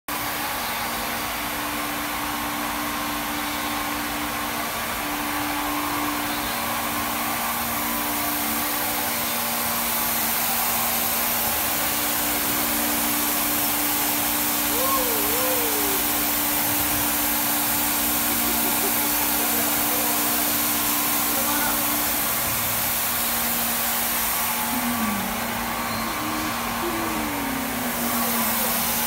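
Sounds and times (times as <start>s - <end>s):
machine whirring and hissing: 0.1s - 29.0s
low hum tones: 3.2s - 29.0s.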